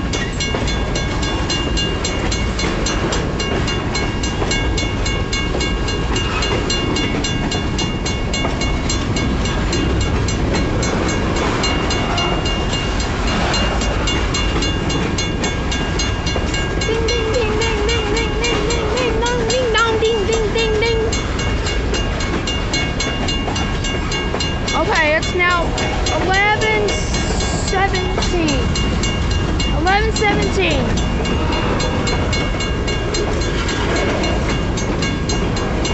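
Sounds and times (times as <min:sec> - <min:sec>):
freight train rumbling past: 0:00.0 - 0:35.9
railroad crossing bell dinging: 0:00.0 - 0:35.9.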